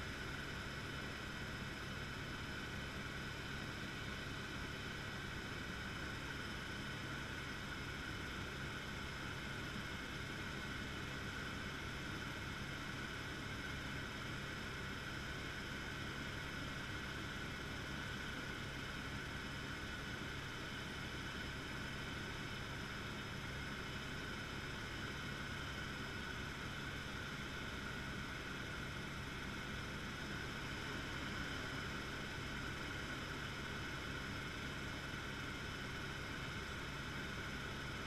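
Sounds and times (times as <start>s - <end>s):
constant whine: 0.0s - 38.0s
helicopter engine and rotor drone: 0.0s - 38.0s.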